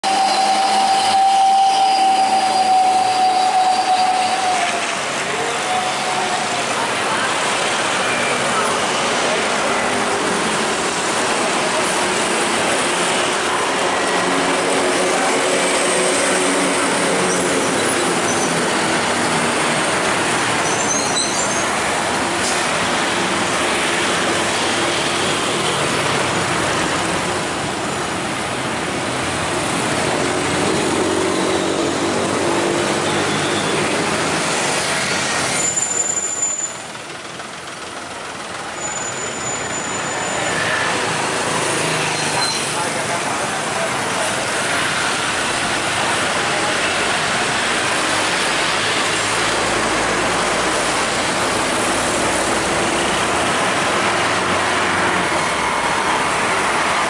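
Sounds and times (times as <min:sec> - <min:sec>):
trucks passing: 0:00.0 - 0:57.0
tyre and road noise: 0:00.0 - 0:57.0.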